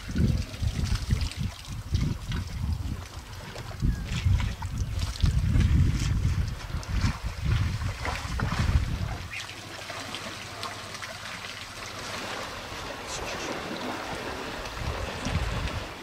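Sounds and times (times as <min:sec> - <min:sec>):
wind rumble on microphone: 0:00.0 - 0:09.4, 0:12.6 - 0:16.0
water trickling and splashing: 0:00.0 - 0:16.0.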